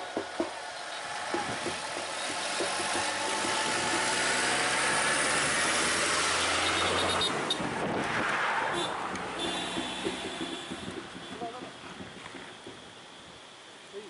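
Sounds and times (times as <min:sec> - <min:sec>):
tyre noise: 0:00.0 - 0:13.4
pickup approaching: 0:00.0 - 0:13.7
diesel truck engine: 0:00.0 - 0:13.8.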